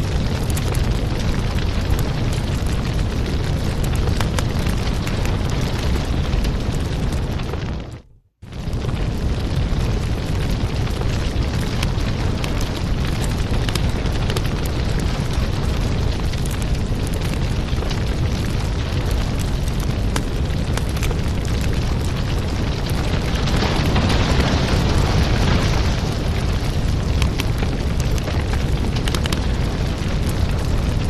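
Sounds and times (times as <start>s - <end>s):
fire burning low rumble: 0.0s - 31.0s
fire crackling and popping: 0.0s - 31.0s.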